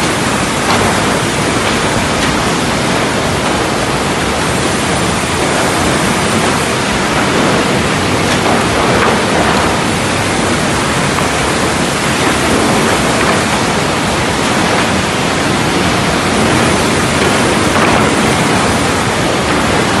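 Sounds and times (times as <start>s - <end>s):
sawmill rushing noise: 0.0s - 20.0s.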